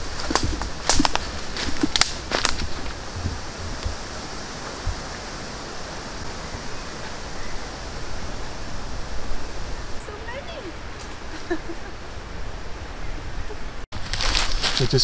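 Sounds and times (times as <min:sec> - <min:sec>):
wind buffeting microphone: 0:00.0 - 0:15.0
wind rushing through woodland: 0:00.0 - 0:15.0.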